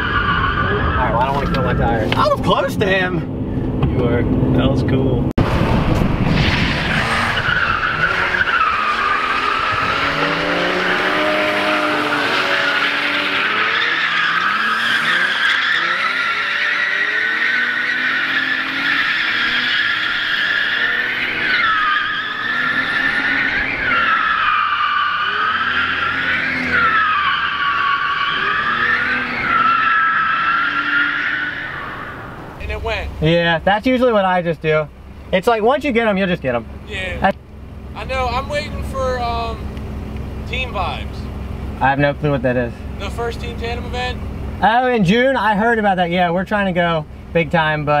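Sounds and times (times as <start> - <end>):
car tyres squealing: 0.0 - 3.8, 5.9 - 48.0
engine revving: 4.0 - 33.2, 36.6 - 46.1.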